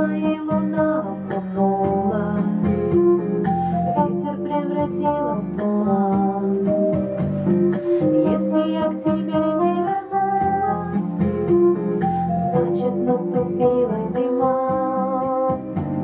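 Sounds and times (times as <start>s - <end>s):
plucked guitar notes: 0.0s - 16.0s
steady bass: 0.0s - 16.0s.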